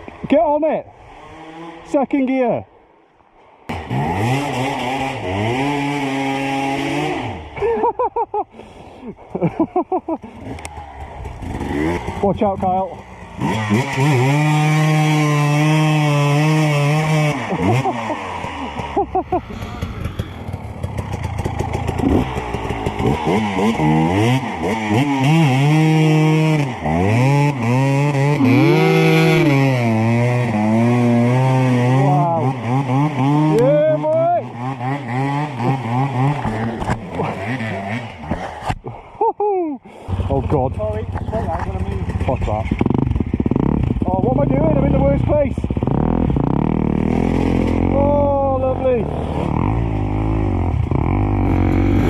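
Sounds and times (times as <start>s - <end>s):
dirt bike engine revving high: 1.0s - 2.0s, 3.7s - 7.6s, 10.2s - 38.6s, 40.1s - 52.0s.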